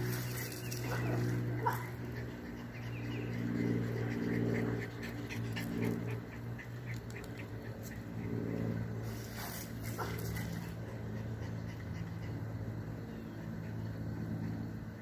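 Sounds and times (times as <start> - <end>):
steady low hum: 0.0 - 15.0
dog panting: 0.2 - 15.0.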